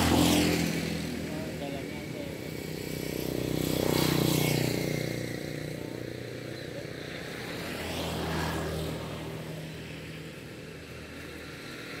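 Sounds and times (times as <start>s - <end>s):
engine passing by: 0.0s - 12.0s.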